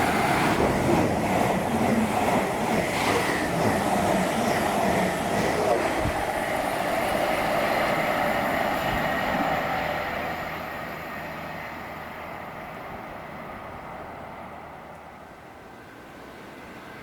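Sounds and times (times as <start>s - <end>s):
train running past: 0.0s - 17.0s.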